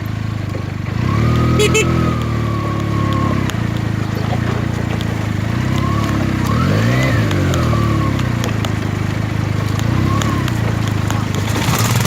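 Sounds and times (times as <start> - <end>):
motorcycle engine running and revving: 0.0 - 12.0.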